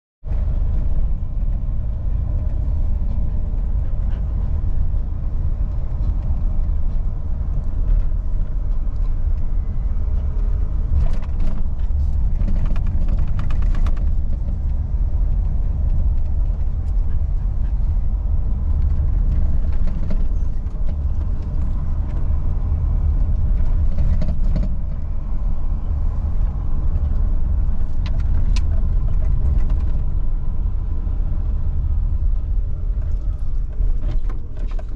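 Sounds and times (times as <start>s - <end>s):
car driving rumble: 0.2s - 34.9s.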